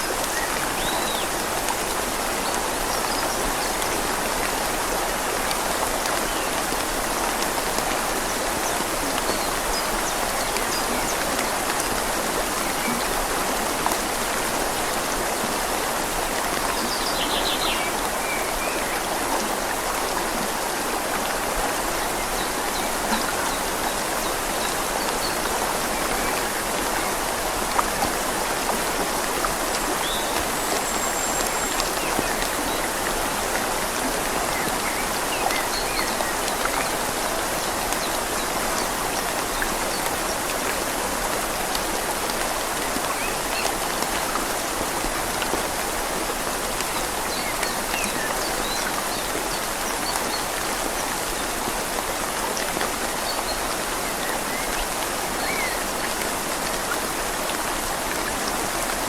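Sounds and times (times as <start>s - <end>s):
rain falling on leaves: 0.0s - 59.0s
river flowing: 0.0s - 59.0s.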